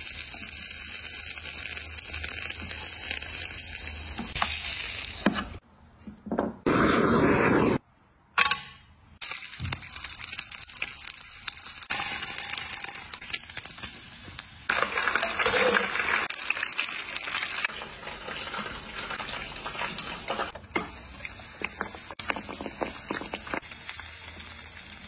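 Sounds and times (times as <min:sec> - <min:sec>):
fat sizzling in hot oil: 0:00.0 - 0:05.6, 0:09.2 - 0:25.0.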